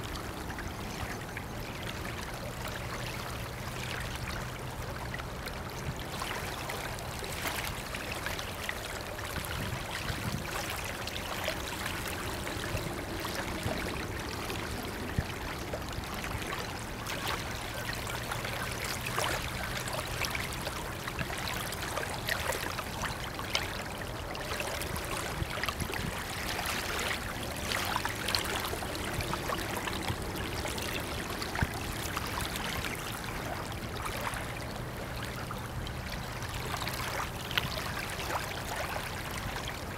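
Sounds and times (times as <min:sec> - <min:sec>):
river water splashing at shore: 0:00.0 - 0:39.9.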